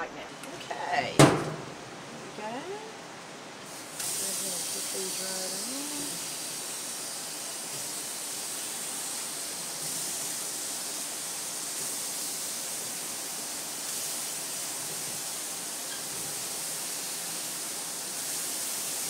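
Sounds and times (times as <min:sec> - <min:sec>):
fruit sizzling on a hot grill: 0:00.0 - 0:19.0.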